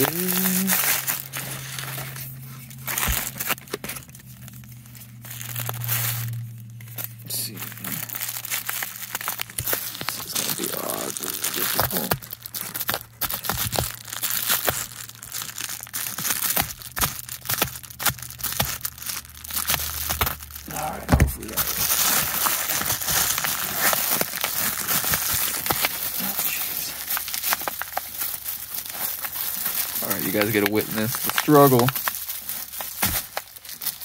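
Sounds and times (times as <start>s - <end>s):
bubble wrap crinkling: 0.0s - 34.0s.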